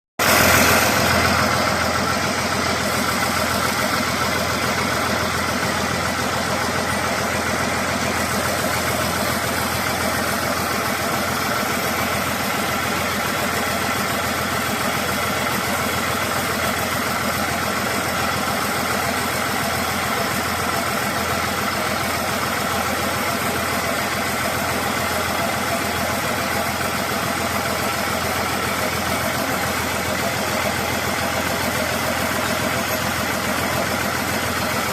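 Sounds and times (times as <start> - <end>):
heavy diesel engine running: 0.2 - 34.9.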